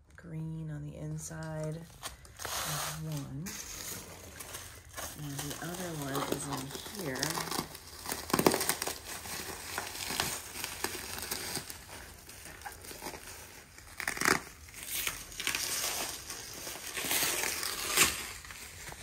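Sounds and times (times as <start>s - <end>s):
bubble wrap crinkling: 1.3s - 19.0s.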